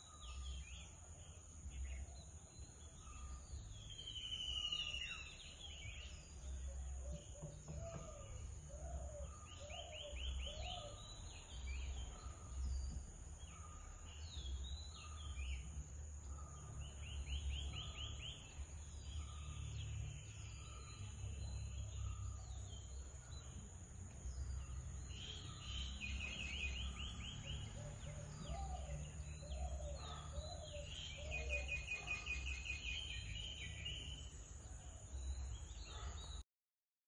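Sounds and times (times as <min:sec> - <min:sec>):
small birds trilling: 0:00.0 - 0:36.4.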